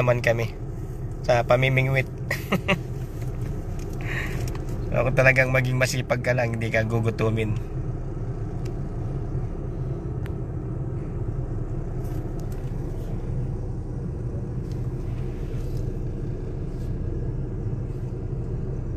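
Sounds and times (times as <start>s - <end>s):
car engine and road noise: 0.0s - 18.9s.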